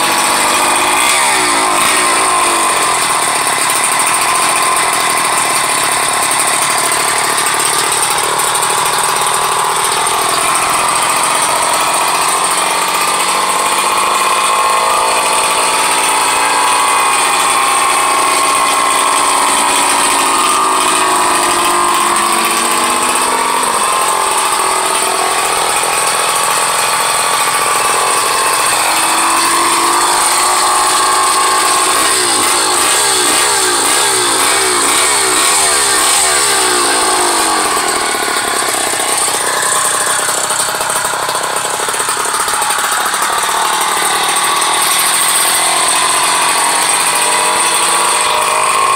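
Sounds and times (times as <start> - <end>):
small two-stroke engine idling: 0.0 - 48.9.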